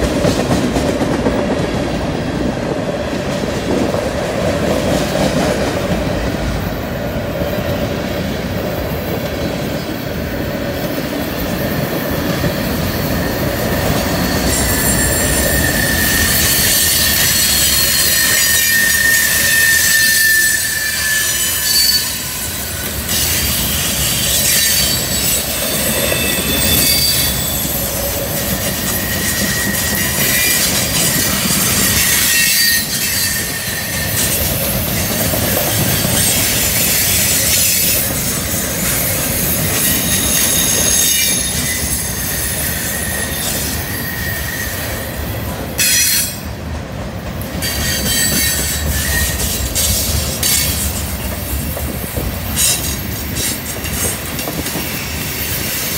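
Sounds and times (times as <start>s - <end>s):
wheels squealing on rail: 4.6s - 46.6s, 47.4s - 55.9s.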